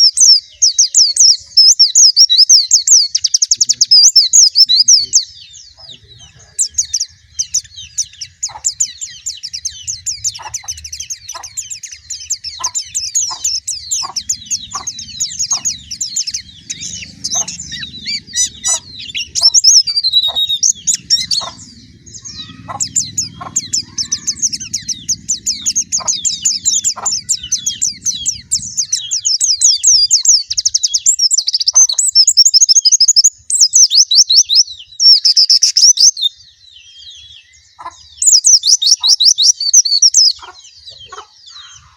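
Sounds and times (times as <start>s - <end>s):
bird twittering song: 0.0s - 41.9s.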